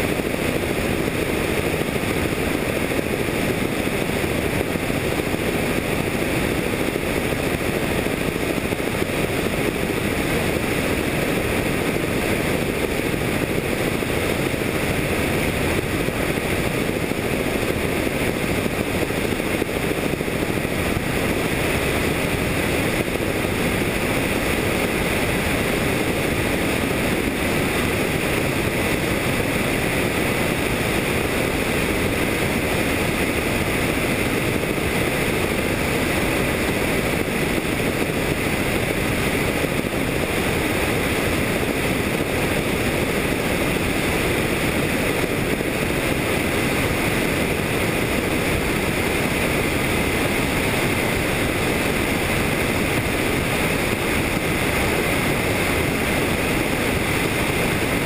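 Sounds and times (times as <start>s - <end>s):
helicopter in flight: 0.0s - 58.0s.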